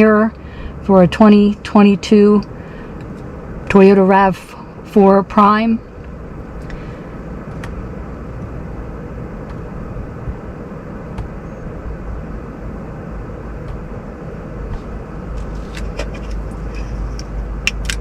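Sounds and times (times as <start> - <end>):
low rumble inside a car: 0.0 - 18.0.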